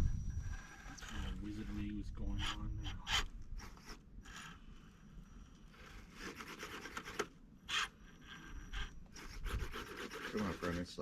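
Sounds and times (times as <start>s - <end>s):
gritty scraping on rock and dirt: 0.0s - 11.0s.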